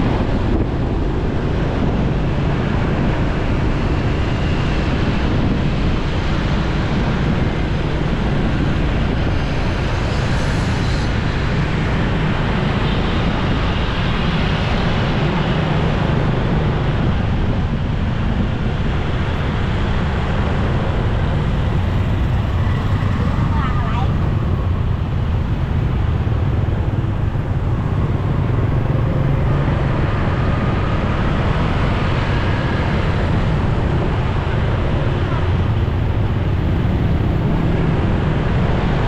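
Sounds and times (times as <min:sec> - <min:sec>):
motorcycle engine and road rumble: 0:00.0 - 0:39.0
wind rushing over microphone: 0:00.0 - 0:39.0.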